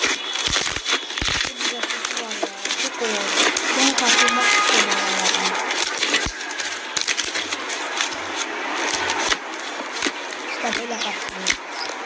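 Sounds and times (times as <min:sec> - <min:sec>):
sharp clicks: 0:00.0 - 0:12.0
slime crackling and popping: 0:00.0 - 0:12.0.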